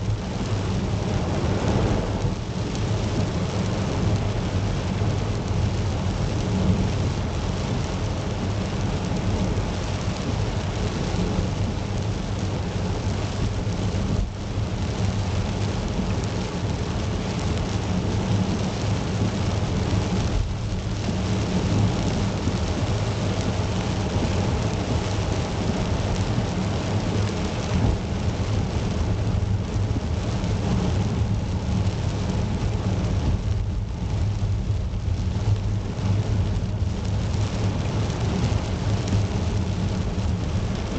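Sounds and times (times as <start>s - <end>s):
low rumble: 0.0s - 40.9s
rain falling on a car: 0.0s - 40.9s.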